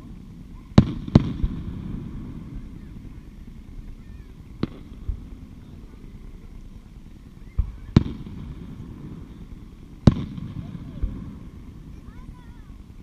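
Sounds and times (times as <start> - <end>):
distant fireworks bursting: 0.0 - 13.0.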